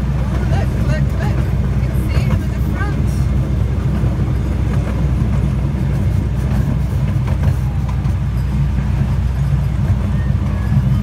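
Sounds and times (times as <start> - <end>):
train carriage rumbling on track: 0.0 - 11.0.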